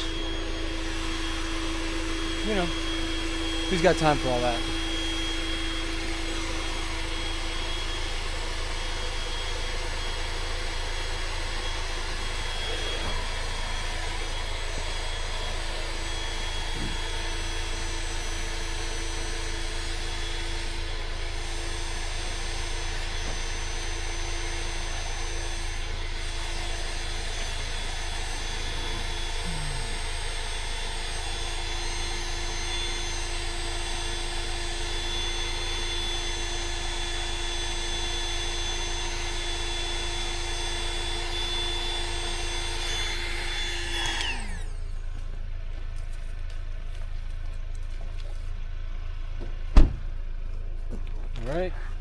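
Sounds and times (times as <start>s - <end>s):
electric air pump whirring: 0.0s - 46.0s.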